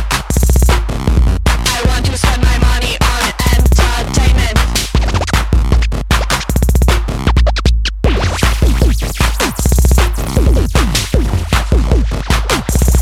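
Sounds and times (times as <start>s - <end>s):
electronic music with drum beat: 0.0s - 13.0s
turntable scratching: 1.5s - 13.0s.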